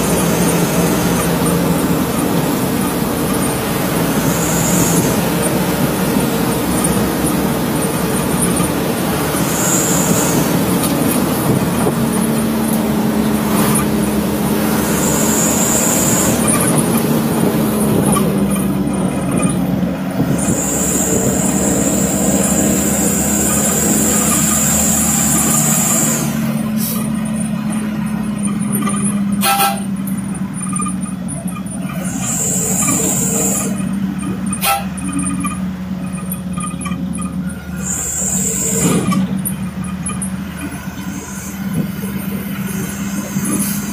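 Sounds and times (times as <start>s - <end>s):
high-pitched squeal: 0.0s - 43.9s
steady drone: 0.0s - 43.9s
truck engine and road noise: 0.0s - 43.9s.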